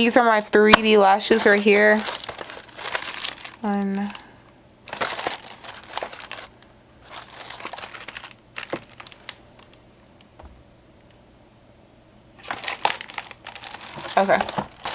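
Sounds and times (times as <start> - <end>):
plastic wrapping crinkling: 0.0 - 9.8, 12.4 - 14.9.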